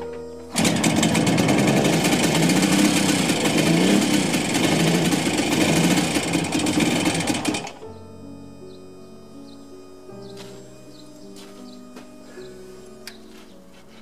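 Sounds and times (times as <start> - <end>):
motorcycle engine running unevenly: 0.0 - 14.0.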